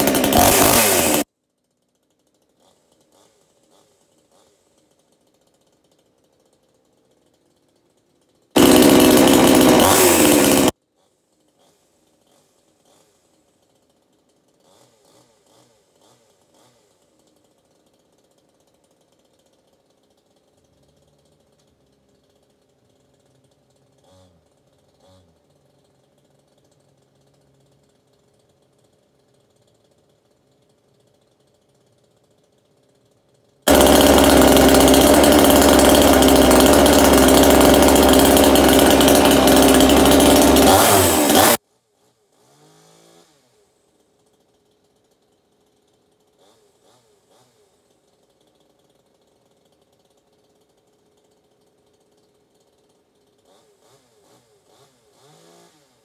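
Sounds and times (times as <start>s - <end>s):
chainsaw running: 0.0s - 1.3s, 2.4s - 5.2s, 8.2s - 56.0s.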